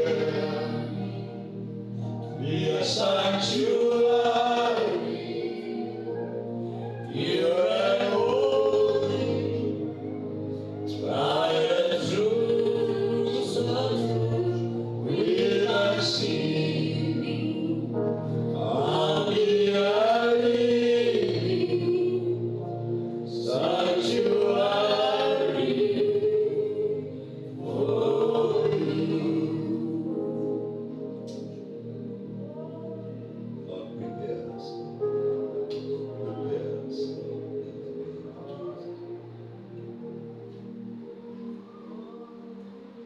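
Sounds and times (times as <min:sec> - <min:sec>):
group singing gospel: 0:00.0 - 0:43.0.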